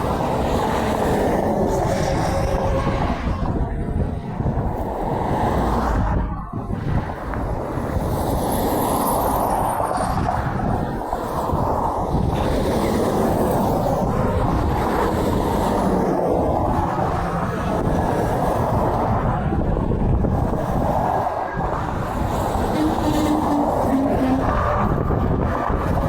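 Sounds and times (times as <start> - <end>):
highway traffic rumble: 0.0 - 26.0.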